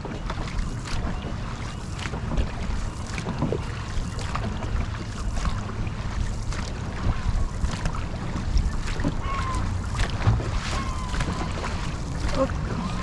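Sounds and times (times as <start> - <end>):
paddles splashing in water: 0.0 - 13.0
water rushing along hull: 0.0 - 13.0
wind on microphone: 0.0 - 13.0.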